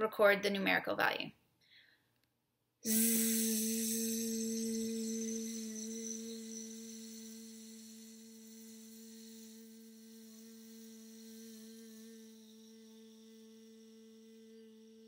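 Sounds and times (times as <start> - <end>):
woman sustaining buzzing zzz: 2.8 - 15.0.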